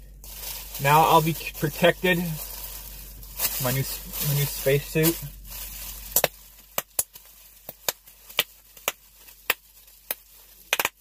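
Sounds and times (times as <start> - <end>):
bubble wrap crinkling: 0.0 - 11.0
bubble wrap bubbles popping: 0.2 - 11.0.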